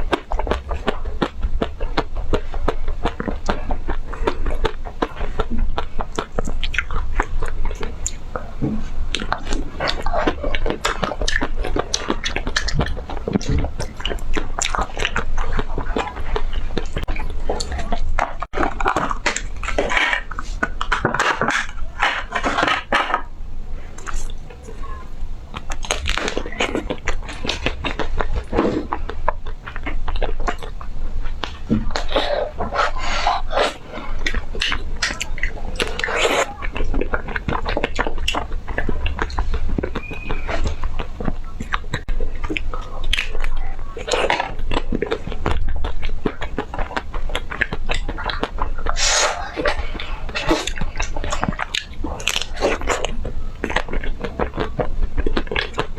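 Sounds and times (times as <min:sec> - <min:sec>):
breathy mouth sounds: 0:00.0 - 0:55.9
crunching and chewing ice cream: 0:00.0 - 0:55.9.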